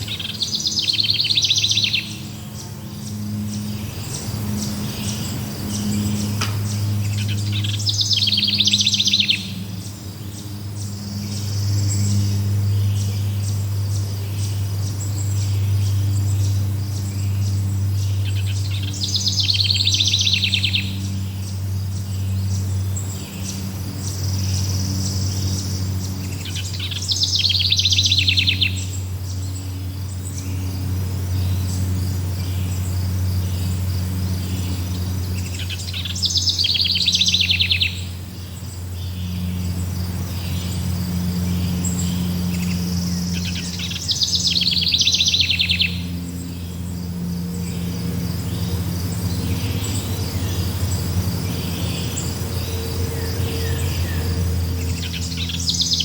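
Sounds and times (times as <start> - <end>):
insects chirping: 0.0 - 56.0
songbird rapid trill: 0.0 - 56.0.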